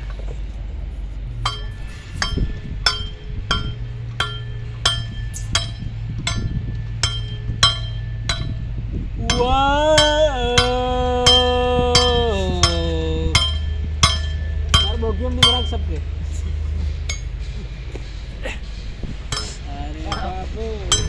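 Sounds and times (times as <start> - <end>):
sliding musical tone: 0.0 - 21.0
sharp metallic clinks: 1.4 - 16.0, 17.0 - 21.0.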